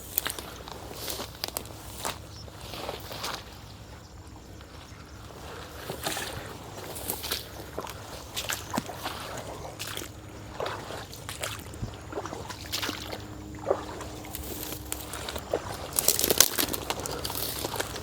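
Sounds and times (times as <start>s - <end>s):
footsteps on a trail: 0.0s - 18.0s.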